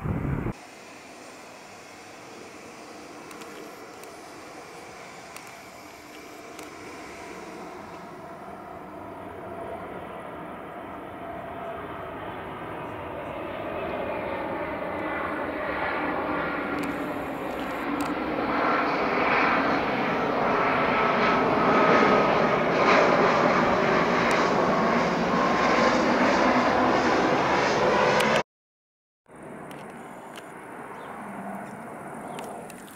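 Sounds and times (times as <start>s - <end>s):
jet engines whining: 0.0s - 28.4s, 29.3s - 32.9s.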